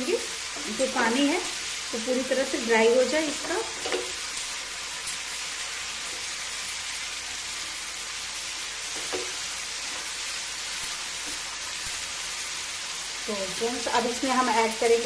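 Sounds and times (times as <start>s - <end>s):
masala sizzling in a frying pan: 0.0s - 15.0s.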